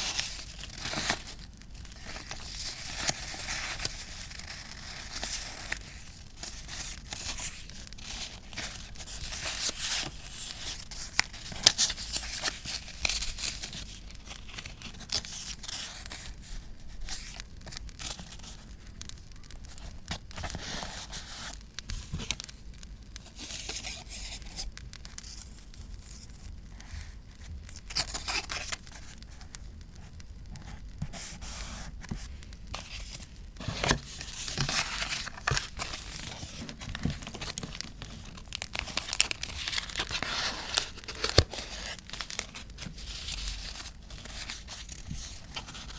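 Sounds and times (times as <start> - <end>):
paper tearing and crinkling: 0.0 - 18.7, 23.2 - 26.3, 27.7 - 29.5, 31.0 - 45.9.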